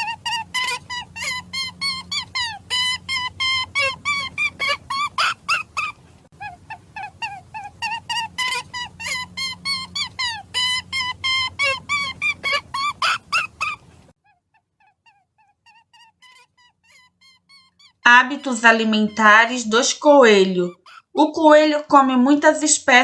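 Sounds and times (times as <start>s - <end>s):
bird calls: 0.0s - 19.6s, 20.3s - 21.2s.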